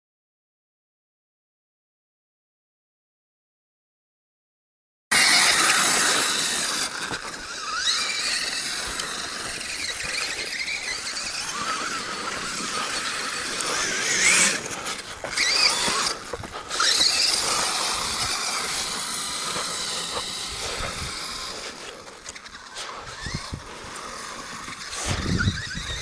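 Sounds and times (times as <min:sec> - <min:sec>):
electric motor and gears whining: 0:05.1 - 0:26.0.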